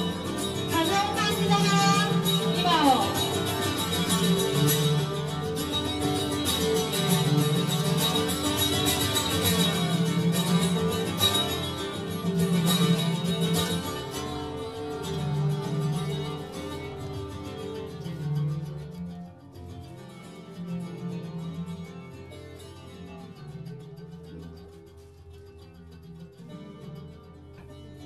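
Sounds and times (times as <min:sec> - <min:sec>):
plucked string music: 0:00.0 - 0:28.0.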